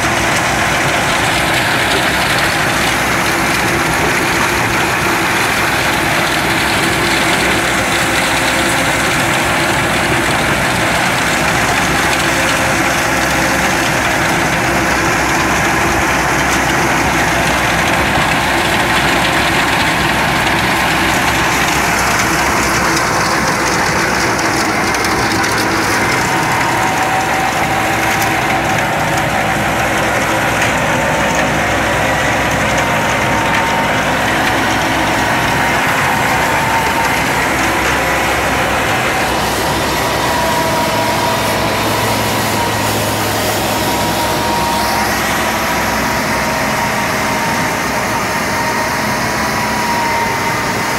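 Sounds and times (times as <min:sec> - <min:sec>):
stone crusher: 0:00.0 - 0:50.9
tractor engine under load: 0:00.0 - 0:50.9.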